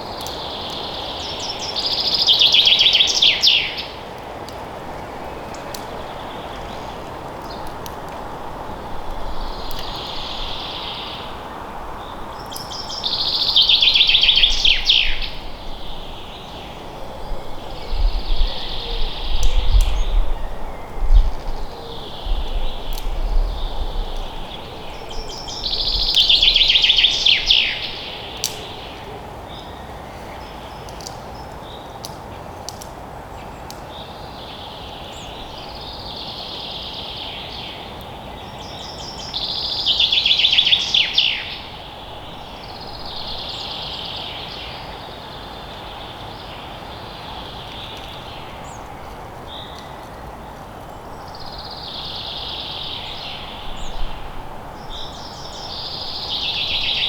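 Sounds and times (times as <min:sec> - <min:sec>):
birds singing: 0:00.0 - 0:57.0
steady background hiss: 0:00.0 - 0:57.0.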